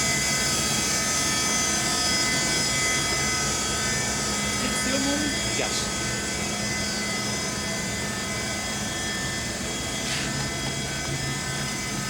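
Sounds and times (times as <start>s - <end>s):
lathe bed motor humming and whining: 0.0s - 12.0s.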